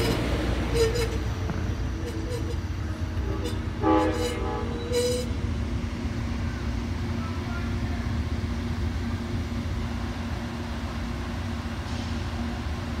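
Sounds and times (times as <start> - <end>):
idling train rumble and hum: 0.0 - 13.0.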